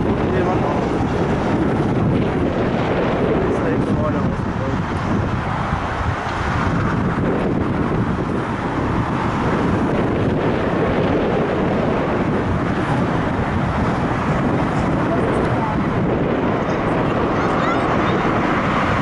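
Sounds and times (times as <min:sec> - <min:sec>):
jet engines at takeoff thrust: 0:00.0 - 0:19.0
wind on microphone: 0:00.0 - 0:19.0.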